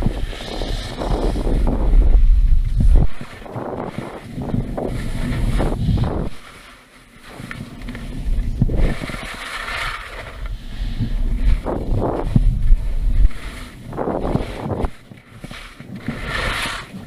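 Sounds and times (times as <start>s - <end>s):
skis scraping on snow: 0.0s - 17.0s
wind rumble on microphone: 0.0s - 17.0s.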